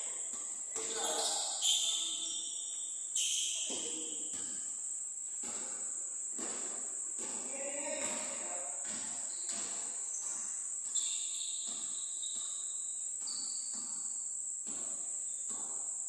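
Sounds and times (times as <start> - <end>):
crickets chirring: 0.0 - 16.0
basketball bouncing on court: 0.3 - 2.4, 3.6 - 4.7, 5.4 - 15.9.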